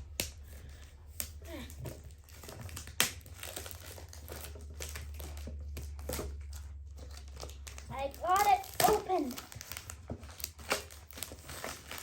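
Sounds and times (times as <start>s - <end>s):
packaging crinkling and snapping: 0.0s - 12.0s.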